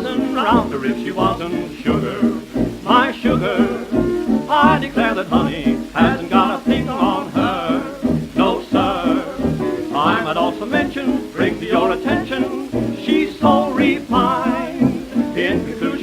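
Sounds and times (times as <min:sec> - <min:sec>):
jazz dance band playing: 0:00.0 - 0:16.0.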